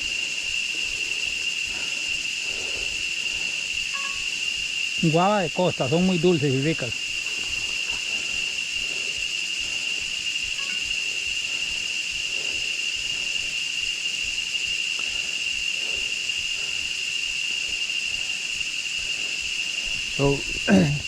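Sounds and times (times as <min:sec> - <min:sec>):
faint hiss: 0:00.0 - 0:21.0
insect chorus shrill drone: 0:00.0 - 0:21.0.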